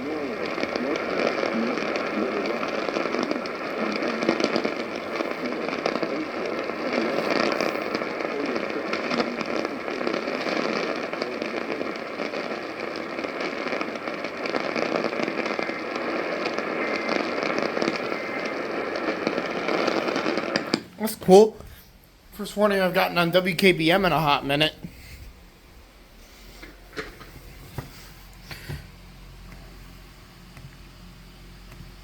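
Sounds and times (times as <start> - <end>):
faint radio station audio: 0.0 - 30.7
radio static hiss and crackling: 0.0 - 32.0.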